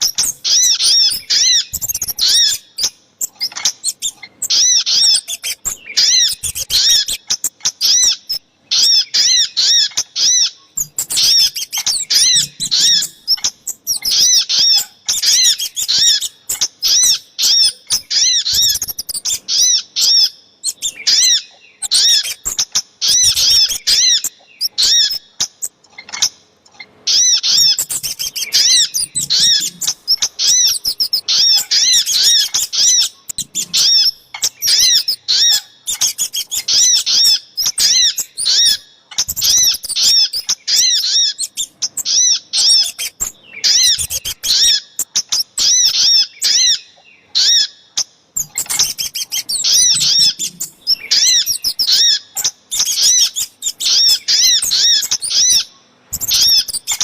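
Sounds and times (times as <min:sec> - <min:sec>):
rapid high bird chirps: 0:00.0 - 0:57.0.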